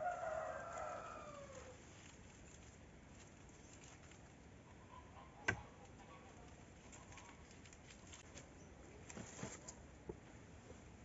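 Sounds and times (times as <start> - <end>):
palm fronds rustling: 0.0 - 4.8, 5.5 - 9.8.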